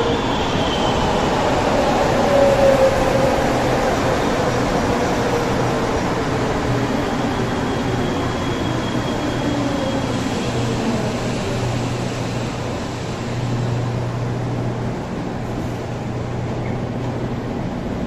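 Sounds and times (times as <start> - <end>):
metro train braking whine: 0.0 - 18.0.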